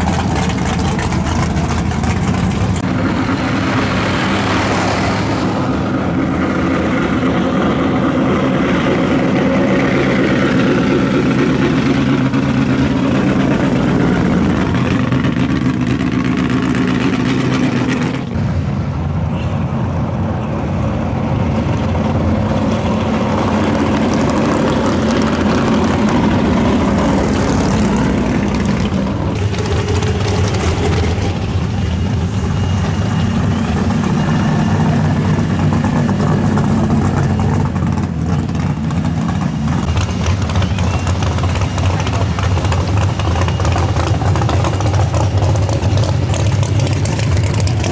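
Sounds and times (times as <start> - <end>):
muscle car engines running: 0.0 - 47.9.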